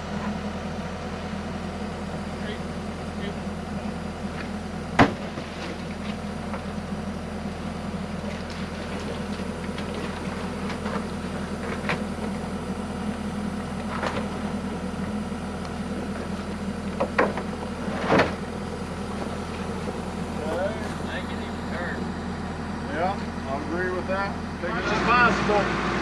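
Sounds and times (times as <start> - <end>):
excavator diesel engine idling: 0.0 - 26.0.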